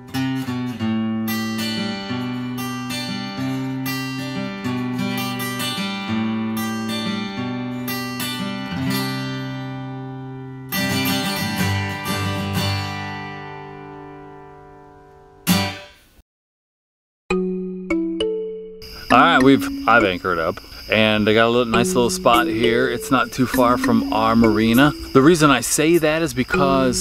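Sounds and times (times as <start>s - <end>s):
acoustic guitar music: 0.0s - 16.1s, 17.9s - 27.0s.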